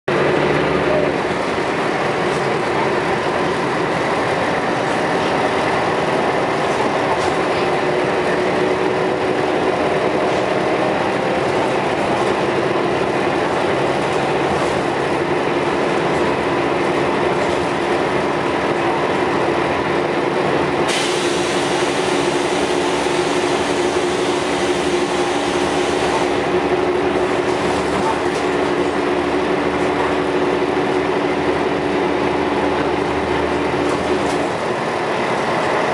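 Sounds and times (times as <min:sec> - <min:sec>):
diesel bus engine running: 0:00.0 - 0:35.9.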